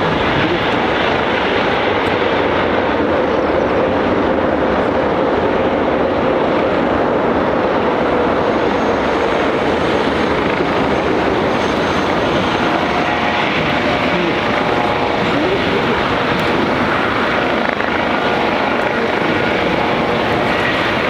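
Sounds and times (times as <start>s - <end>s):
faint engine drone: 0.0s - 4.0s, 4.7s - 21.0s
jet engines roaring: 0.0s - 21.0s.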